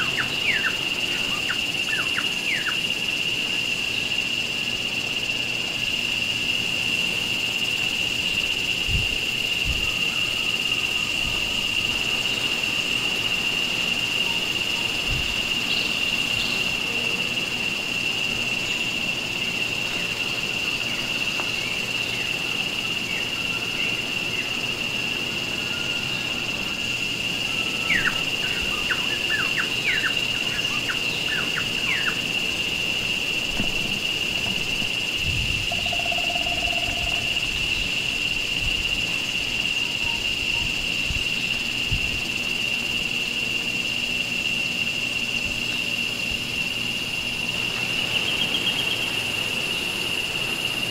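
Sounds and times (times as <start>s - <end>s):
high-pitched insect drone: 0.0s - 50.9s.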